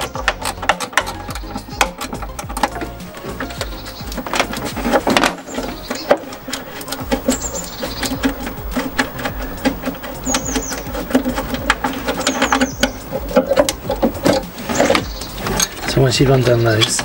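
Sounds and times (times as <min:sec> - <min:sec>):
hand ratchet clicking: 0:00.0 - 0:17.0.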